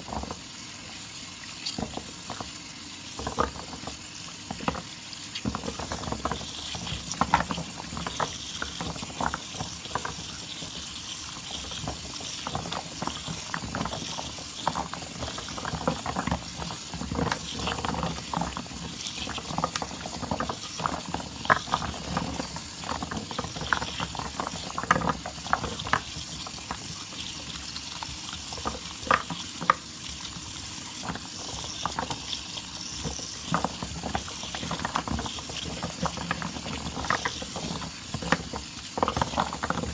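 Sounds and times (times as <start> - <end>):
steady fizz of foam: 0.0 - 39.9.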